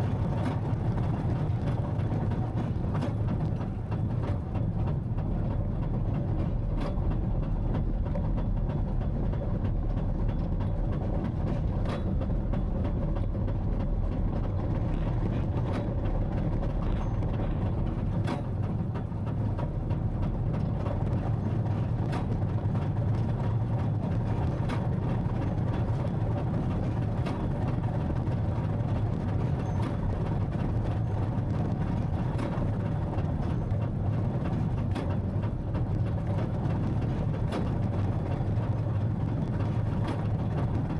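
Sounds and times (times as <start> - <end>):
machinery clicks and rattles: 0.0 - 40.9
tractor engine running: 0.0 - 40.9.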